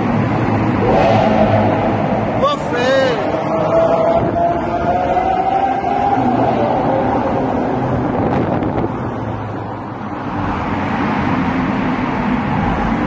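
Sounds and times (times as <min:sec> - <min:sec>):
low engine drone: 0:00.0 - 0:13.0
road and wind noise: 0:00.0 - 0:13.0.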